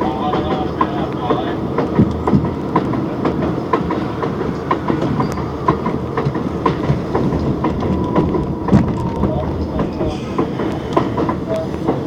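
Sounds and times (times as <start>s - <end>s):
subway train rumble: 0.0s - 12.0s
wheels clicking over rail joints: 0.0s - 12.0s.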